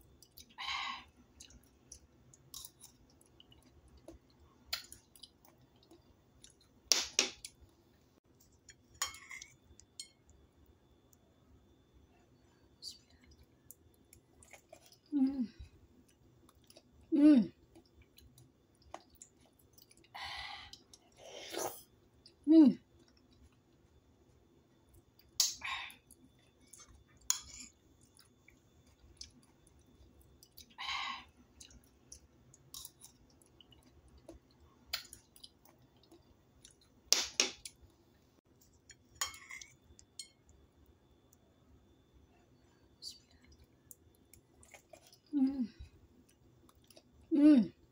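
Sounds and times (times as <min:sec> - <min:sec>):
wet chewing and mouth sounds: 0:01.2 - 0:11.2, 0:12.8 - 0:24.0, 0:24.8 - 0:47.3.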